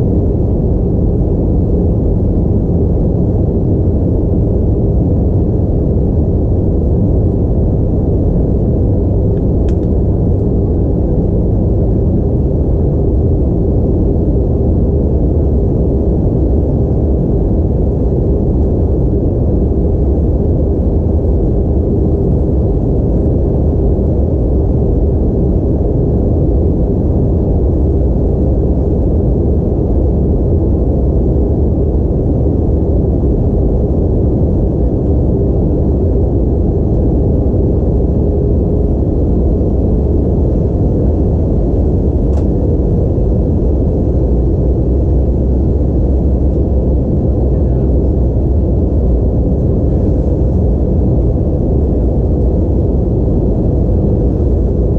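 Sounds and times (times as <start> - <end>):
airplane cabin rumble: 0.0 - 54.9
faint steady hum: 0.0 - 54.9.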